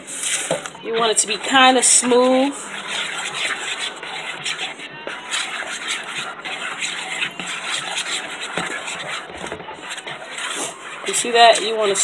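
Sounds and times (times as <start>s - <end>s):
fork stirring wet batter in bowl: 0.2s - 12.0s.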